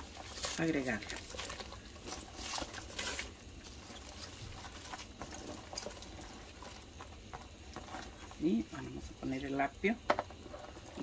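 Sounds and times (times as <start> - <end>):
leaves splashing into broth: 0.0 - 11.0.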